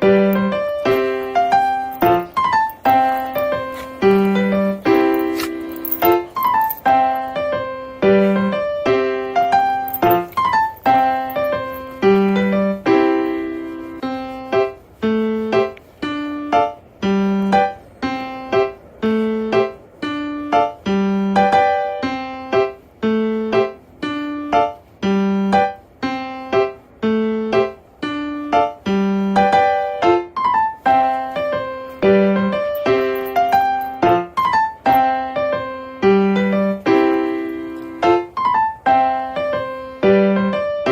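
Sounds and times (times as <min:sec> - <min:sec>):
gentle piano melody: 0:00.0 - 0:40.9.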